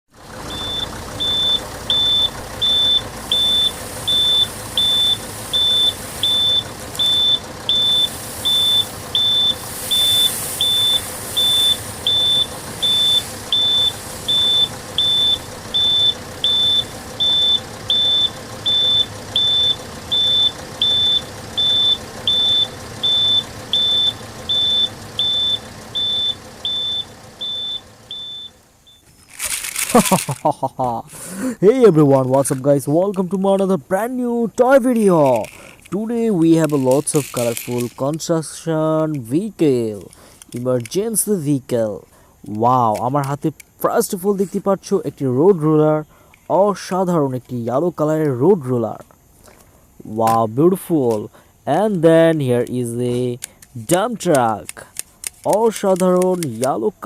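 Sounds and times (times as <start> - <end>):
vehicle reversing alarm beeping: 0.2 - 54.7
steady background hum: 0.5 - 57.0.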